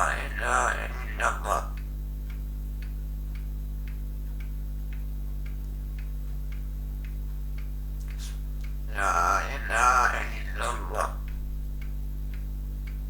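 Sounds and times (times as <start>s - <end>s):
low electrical hum: 0.0s - 13.0s
steady ticking: 0.0s - 13.0s.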